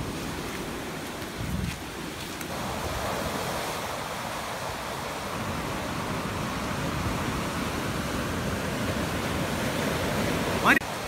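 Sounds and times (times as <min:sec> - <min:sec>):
sea surf breaking on sand: 0:00.0 - 0:11.0.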